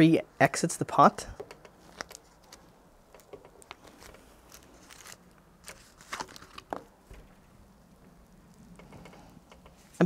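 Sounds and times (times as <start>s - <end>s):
foliage crackling and rustling: 1.8s - 10.0s.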